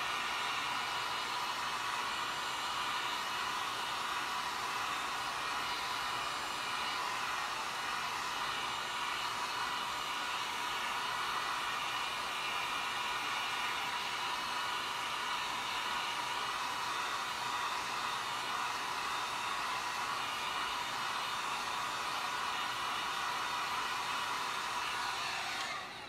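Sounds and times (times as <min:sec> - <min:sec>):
hot-air blower rushing hiss: 0:00.0 - 0:26.0.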